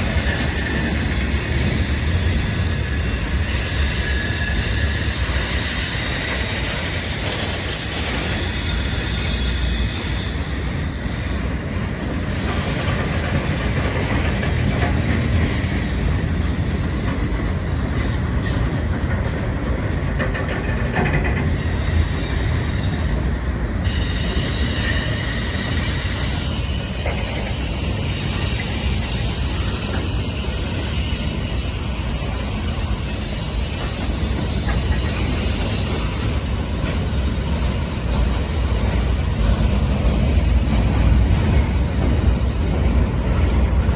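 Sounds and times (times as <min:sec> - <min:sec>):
high squeal of wheels: 0:00.0 - 0:11.6, 0:12.2 - 0:19.8, 0:21.0 - 0:43.0
train wheels rumbling on rail: 0:00.0 - 0:43.9.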